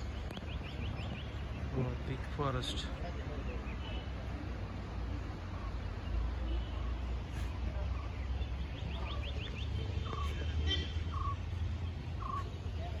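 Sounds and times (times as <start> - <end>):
bird calls: 0.0 - 13.0
birds chirping: 0.0 - 13.0.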